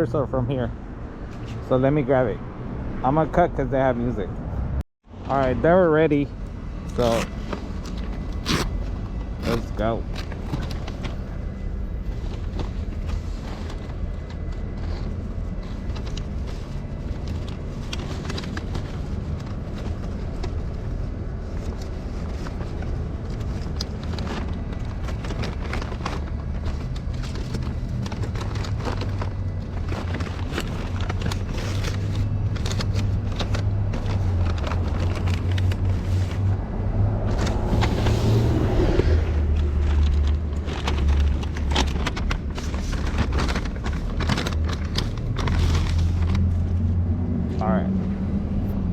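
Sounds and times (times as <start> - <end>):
vehicle road noise rumble: 0.0 - 48.9.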